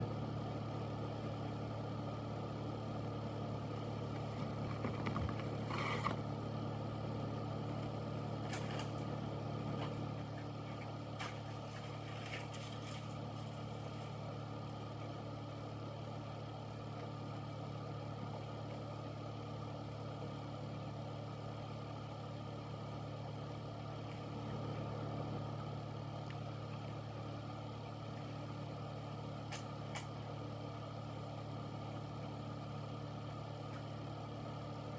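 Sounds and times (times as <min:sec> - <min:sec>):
air purifier fan running: 0:00.0 - 0:34.9.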